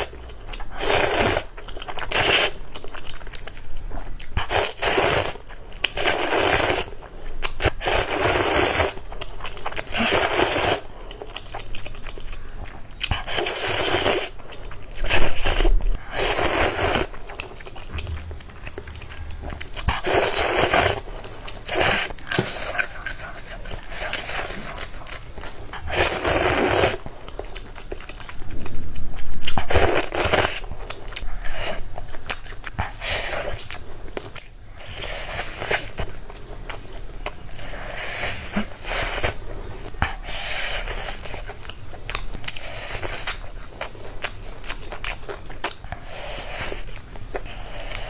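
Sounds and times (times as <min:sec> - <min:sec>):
noodles biting and chewing: 0:00.0 - 0:48.0.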